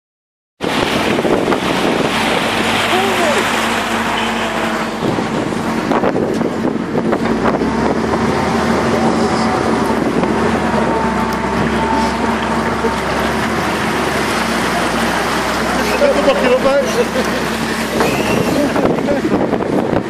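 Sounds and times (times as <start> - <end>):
wind buffeting microphone: 0.6 - 15.6, 17.4 - 20.0
diesel engine running: 0.6 - 20.0
water washing around wheels: 0.6 - 20.0.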